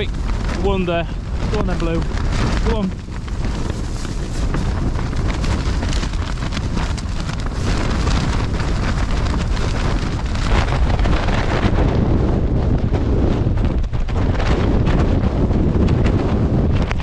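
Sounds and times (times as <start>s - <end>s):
tent fabric flapping: 0.0s - 17.0s
wind blowing across microphone: 0.0s - 17.0s.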